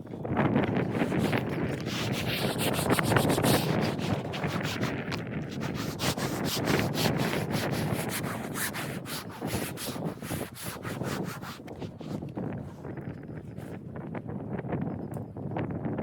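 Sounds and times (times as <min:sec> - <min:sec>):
wind buffeting microphone: 0:00.0 - 0:16.0
rubbing and scraping: 0:00.4 - 0:13.8.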